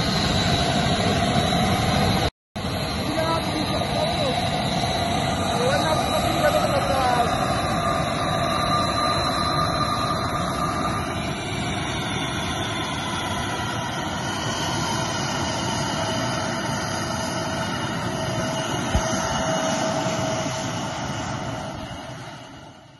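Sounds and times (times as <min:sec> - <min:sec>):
jet engines whining at taxi: 0:00.0 - 0:22.9.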